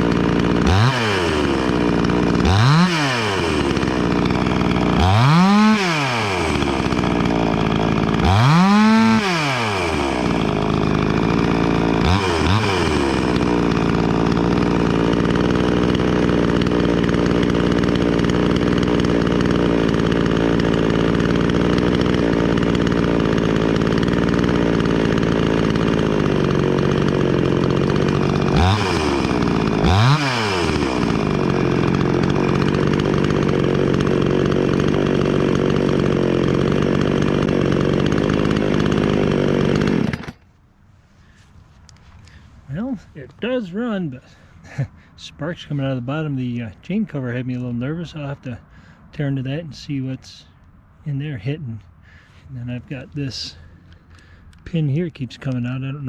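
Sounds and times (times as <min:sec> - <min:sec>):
chainsaw revving and idling: 0:00.0 - 0:40.6, 0:41.2 - 0:56.0.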